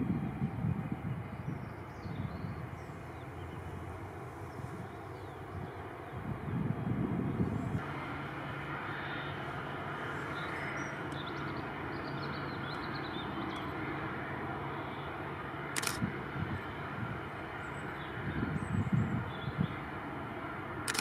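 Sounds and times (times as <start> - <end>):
airliner mechanical hum and whine: 0.0 - 21.0.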